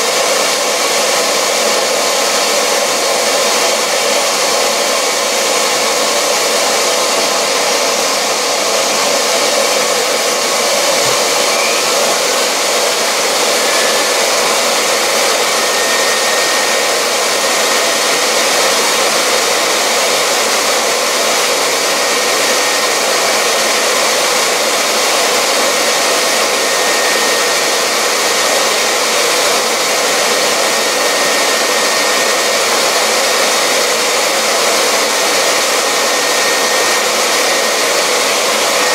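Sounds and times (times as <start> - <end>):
grinder and vacuum whirring hiss: 0.0 - 38.9.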